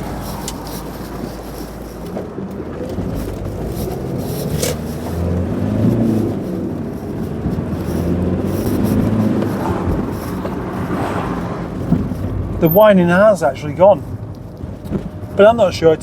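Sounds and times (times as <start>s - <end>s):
diesel car engine running: 0.0s - 16.0s.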